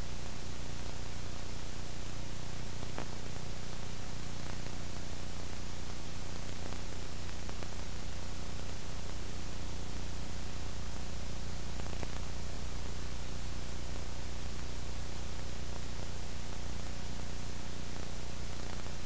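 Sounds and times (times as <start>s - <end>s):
recording hiss: 0.0s - 19.0s.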